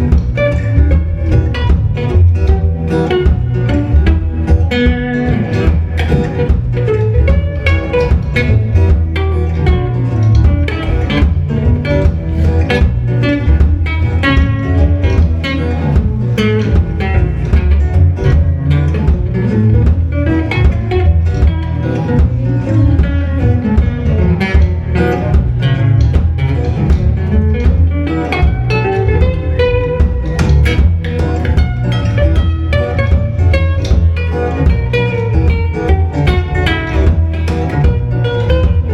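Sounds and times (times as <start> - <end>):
guitar: 0.0 - 38.9
heavy bass line: 0.0 - 38.9
live band playing instrumental: 0.0 - 38.9.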